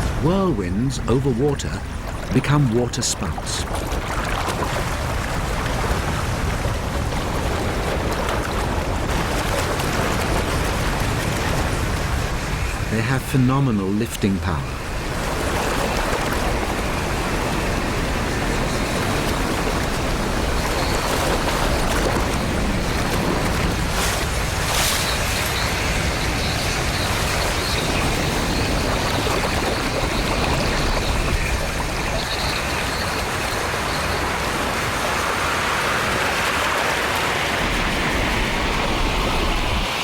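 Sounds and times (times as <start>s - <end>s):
churning water: 0.0s - 40.0s.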